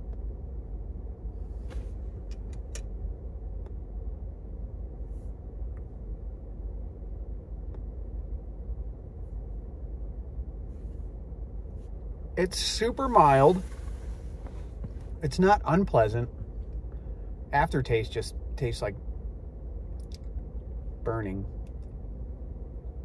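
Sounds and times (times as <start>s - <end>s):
low rumble inside car: 0.0s - 23.0s.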